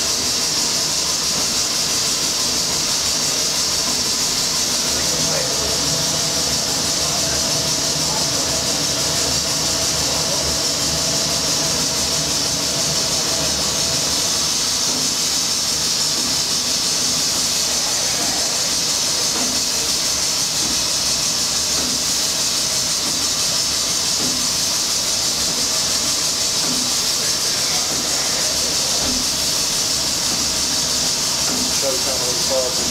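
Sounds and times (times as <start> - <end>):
steam engine machinery hiss: 0.0 - 32.9.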